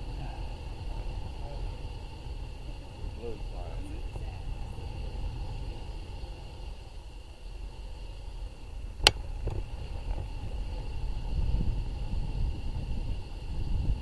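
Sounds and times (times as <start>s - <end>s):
faint high hum: 0.0s - 14.0s
wind and riding rumble: 0.0s - 14.0s.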